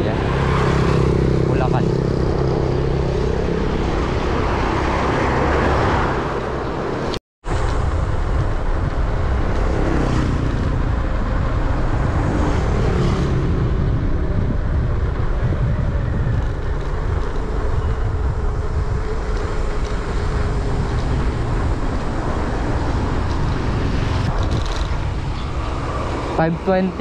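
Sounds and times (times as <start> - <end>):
highway traffic passing: 0.0 - 27.0
wind rumble on microphone: 0.0 - 27.0.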